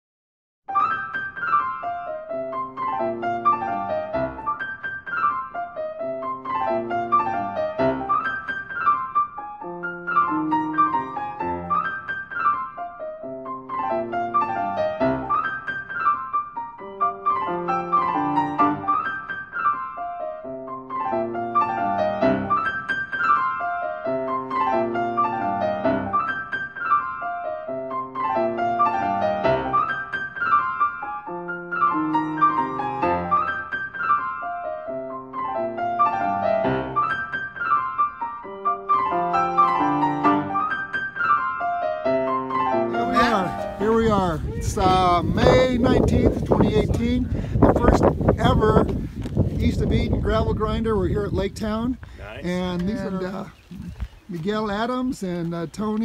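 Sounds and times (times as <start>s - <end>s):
flowing piano music: 0.7s - 56.0s.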